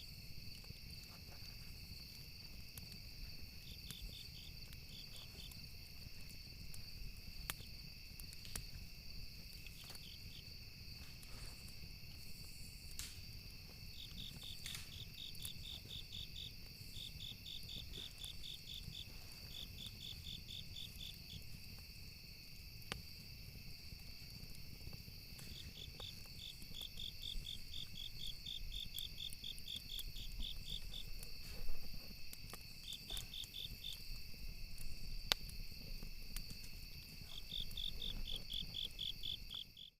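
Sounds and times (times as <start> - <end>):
campfire crackles and pops: 0.0 - 39.9
crickets chirping: 0.0 - 39.9
high insect trill: 0.0 - 39.9.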